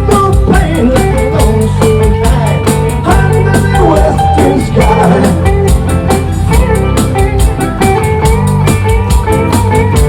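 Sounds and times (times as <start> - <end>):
live country-rock band playing: 0.0 - 10.0.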